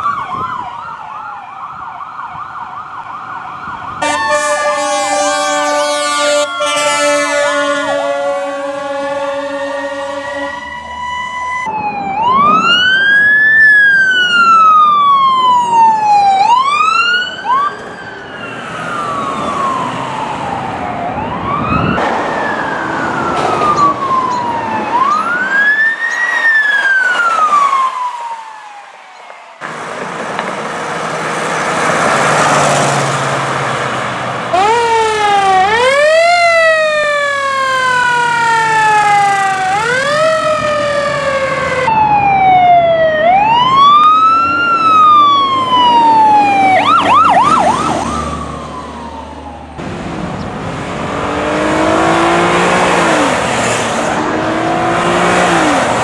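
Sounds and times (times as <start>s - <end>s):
emergency sirens wailing: 0.0s - 56.0s
truck engine and road noise: 0.0s - 56.0s.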